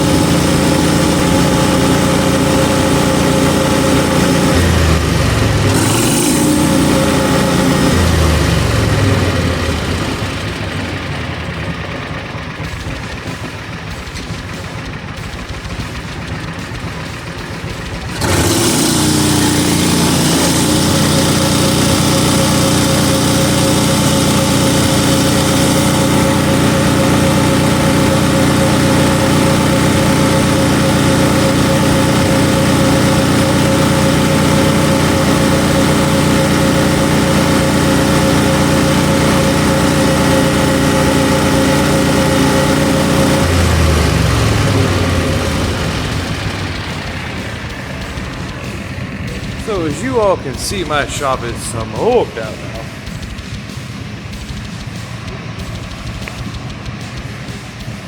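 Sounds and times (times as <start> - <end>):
engine revving at high rpm: 0.0 - 58.0.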